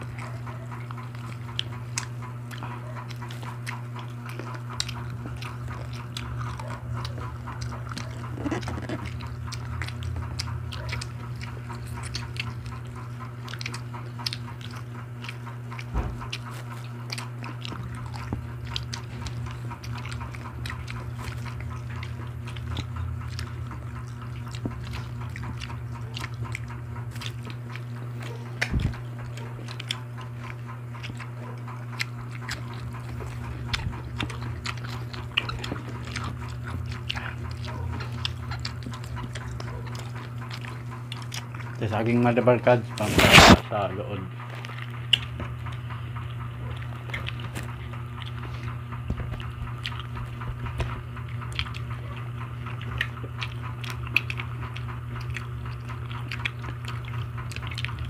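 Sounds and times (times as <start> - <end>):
people chewing and lip smacking: 0.0 - 58.0.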